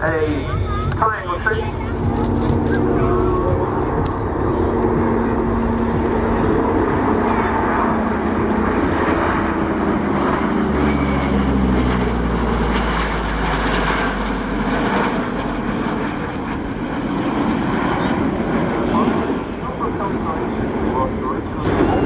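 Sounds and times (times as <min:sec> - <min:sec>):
jet noise: 0:00.0 - 0:22.0
piston aircraft engines droning: 0:00.0 - 0:22.0.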